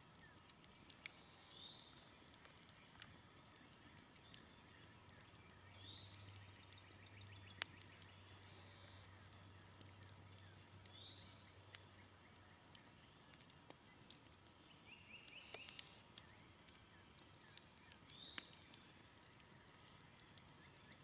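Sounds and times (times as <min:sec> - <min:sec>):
campfire crackling and popping: 0:00.0 - 0:21.0
bird chirping: 0:00.1 - 0:03.0, 0:03.8 - 0:21.0.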